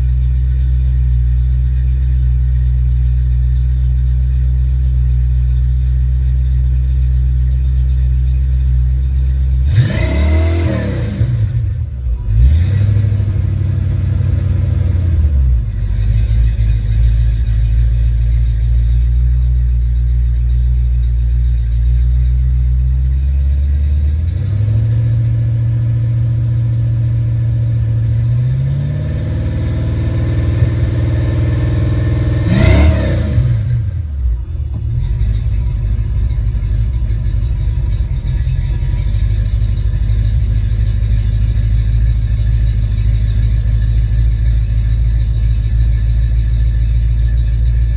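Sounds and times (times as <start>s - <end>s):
car engine revving and idling: 0.0s - 47.9s.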